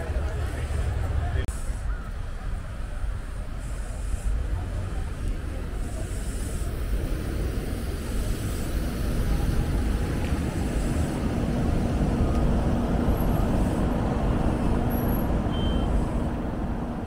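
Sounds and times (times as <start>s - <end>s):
faint engine hum: 0.0s - 17.0s
road traffic rumble: 0.0s - 17.0s.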